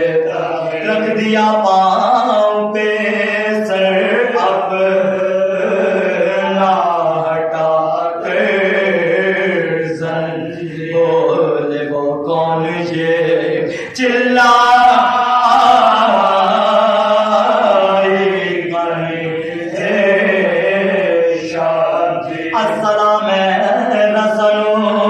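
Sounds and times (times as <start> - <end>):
men chanting: 0.0 - 25.0.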